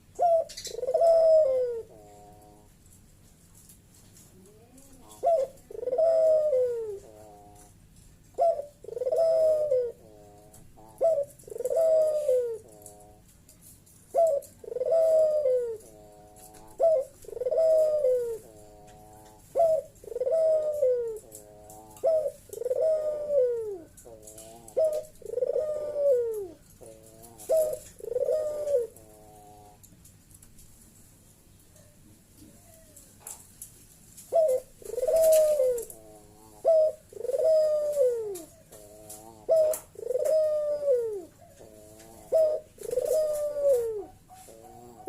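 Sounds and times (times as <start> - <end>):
dove cooing: 0.0 - 2.8, 4.2 - 13.3, 14.1 - 29.9, 34.2 - 45.0.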